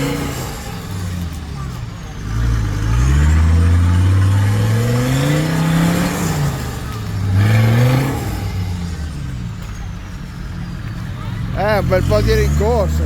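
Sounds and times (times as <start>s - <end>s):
engine revving in mud: 0.0s - 13.0s.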